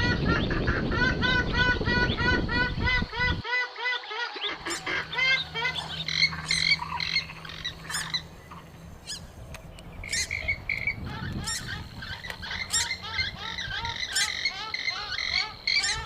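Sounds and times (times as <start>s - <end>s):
swamphen calling: 0.0s - 16.0s.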